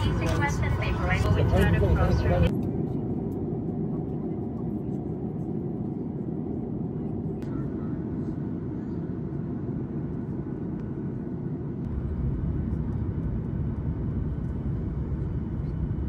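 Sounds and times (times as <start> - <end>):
jet cabin low rumble: 0.0 - 16.0.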